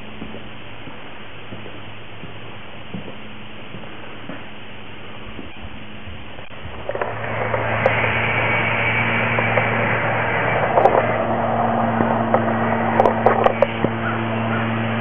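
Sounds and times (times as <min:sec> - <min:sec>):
even hiss: 0:00.0 - 0:15.0
steady low hum: 0:00.0 - 0:15.0.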